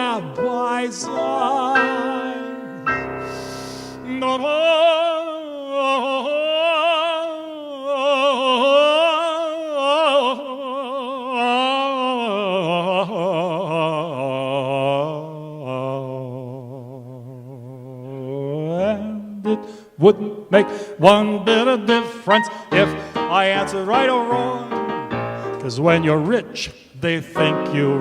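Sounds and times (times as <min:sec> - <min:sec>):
man singing with vibrato: 0:00.0 - 0:28.0.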